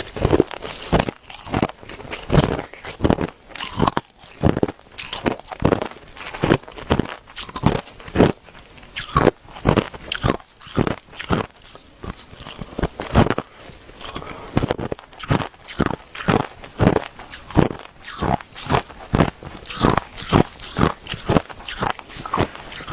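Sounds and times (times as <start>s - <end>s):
ice crunched between teeth: 0.0s - 22.9s.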